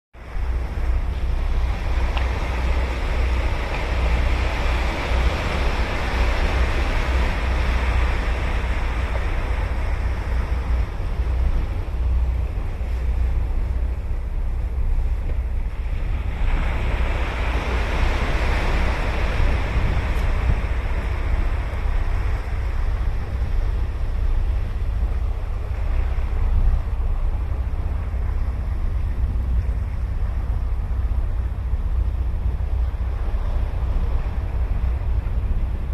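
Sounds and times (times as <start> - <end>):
ocean surf breaking on beach: 0.2 - 13.8, 14.8 - 31.2
wind rumbling on microphone: 0.2 - 35.9.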